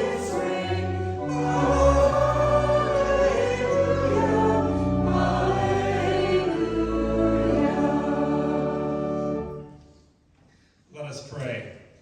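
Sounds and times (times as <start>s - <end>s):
congregation singing a hymn: 0.0s - 9.8s
organ bass line: 0.0s - 9.8s.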